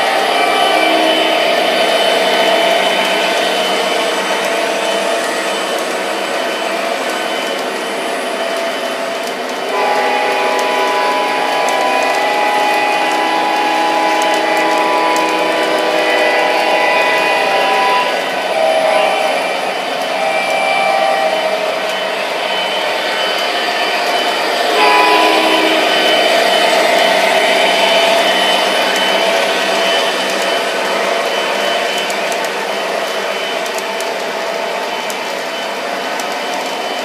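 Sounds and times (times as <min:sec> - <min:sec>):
model train motors whirring: 0:00.0 - 0:37.0.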